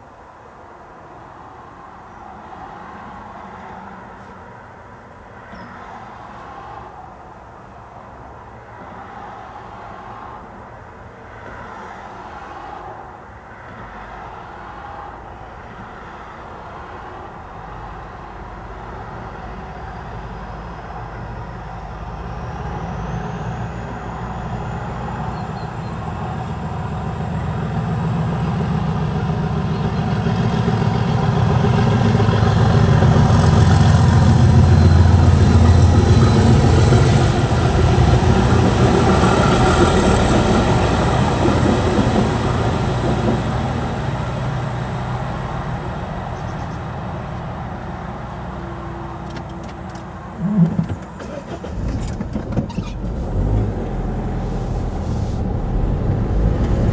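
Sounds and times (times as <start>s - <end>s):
diesel locomotive passing: 1.5s - 50.6s, 53.0s - 56.9s.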